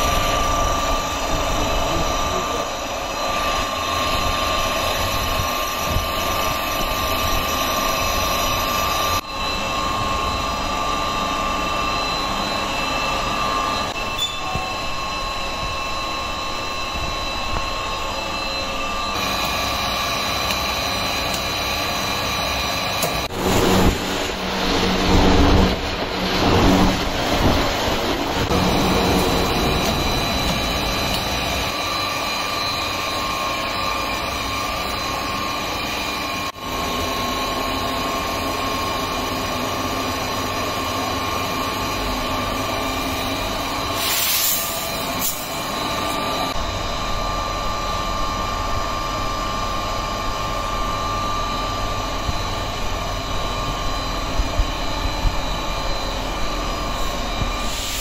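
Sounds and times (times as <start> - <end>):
machinery high whine: 0.0 - 58.0
machinery hum: 0.0 - 58.0.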